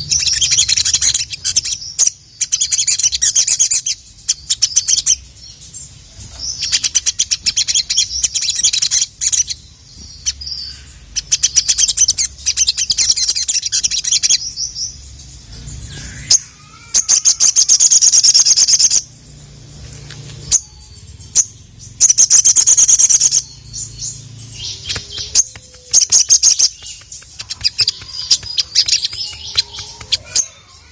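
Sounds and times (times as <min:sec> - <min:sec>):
sunbird chattering song: 0:00.0 - 0:30.9.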